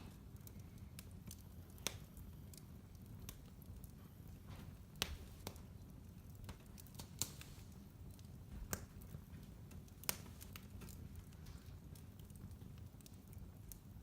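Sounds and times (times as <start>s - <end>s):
low rumble of burning: 0.0s - 14.0s
wood fire crackling: 0.0s - 14.0s.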